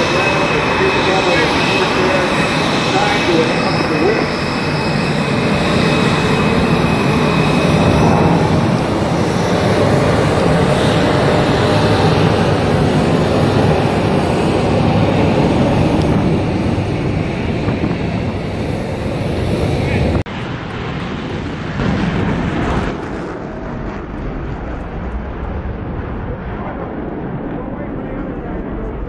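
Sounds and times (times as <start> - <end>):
airplane engine in flight: 0.0 - 29.0.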